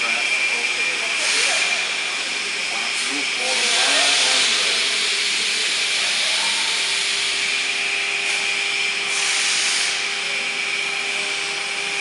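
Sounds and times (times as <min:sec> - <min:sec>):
router spindle whine: 0:00.0 - 0:12.0
router bit cutting hiss: 0:01.0 - 0:12.0.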